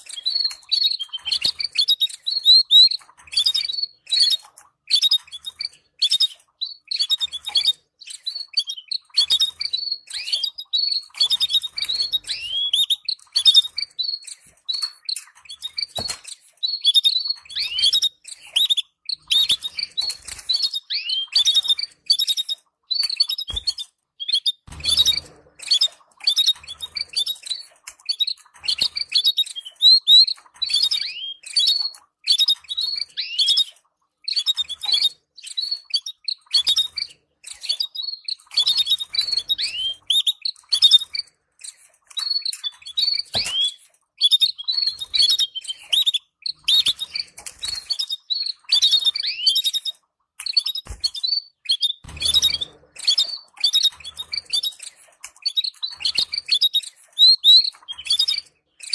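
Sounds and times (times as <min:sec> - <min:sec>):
canaries chirping: 0:00.0 - 0:58.9.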